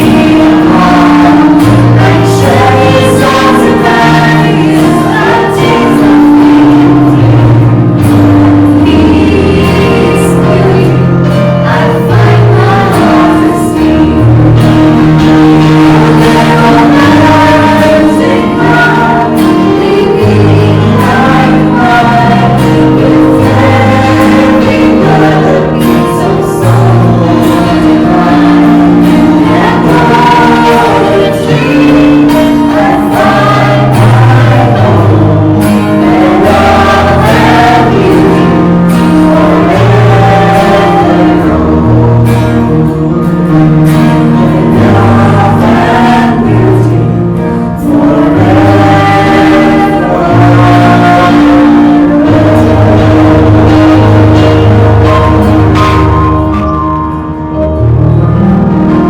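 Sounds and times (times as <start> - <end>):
choir singing: 0.0 - 56.8
sustained chords with bass: 0.0 - 59.0.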